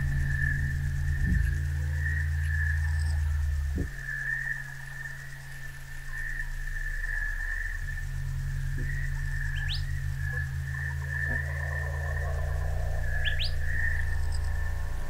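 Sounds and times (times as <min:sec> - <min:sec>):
low electronic drones: 0:00.0 - 0:15.0.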